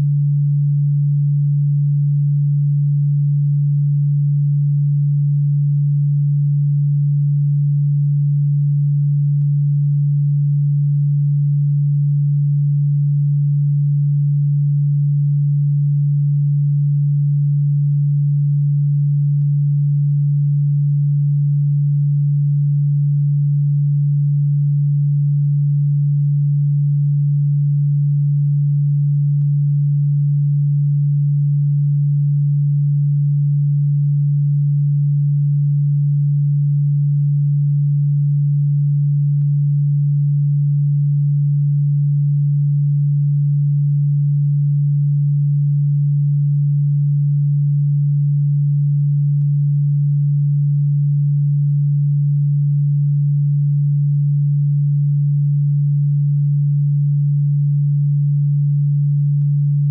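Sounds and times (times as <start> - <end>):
low electronic sine tone: 0.0 - 59.9.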